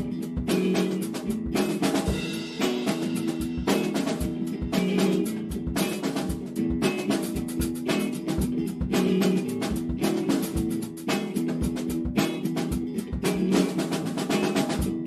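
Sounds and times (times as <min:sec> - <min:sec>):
drum kit beat: 0:00.0 - 0:15.0
keyboard and guitar riff: 0:00.0 - 0:15.0.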